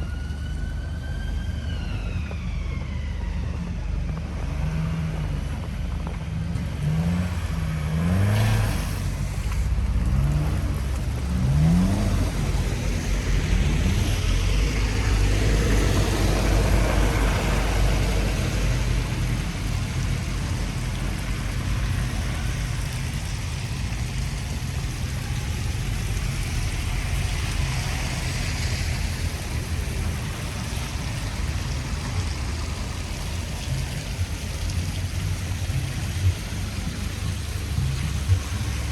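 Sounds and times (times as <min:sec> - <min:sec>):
tyre and traffic noise: 0:00.0 - 0:38.9
vehicle accelerating past: 0:06.5 - 0:38.9.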